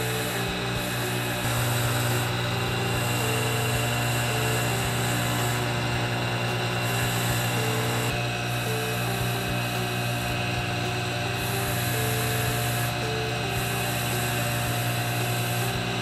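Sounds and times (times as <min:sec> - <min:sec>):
polishing motor humming: 0:00.0 - 0:16.0.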